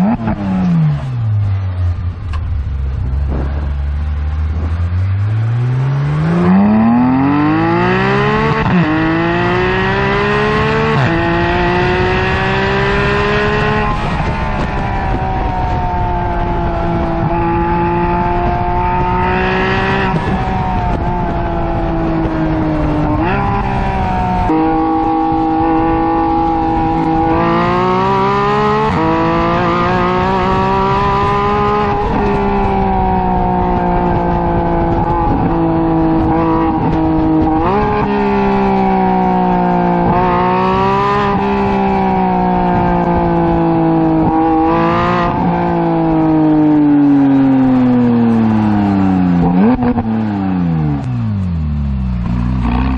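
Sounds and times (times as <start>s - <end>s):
sports car engine accelerating: 0.0s - 52.9s.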